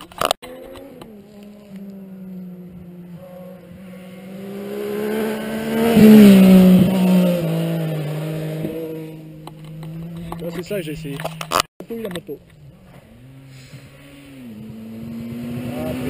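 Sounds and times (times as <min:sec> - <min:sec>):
motorcycle passing: 0:00.4 - 0:11.6, 0:12.4 - 0:16.0.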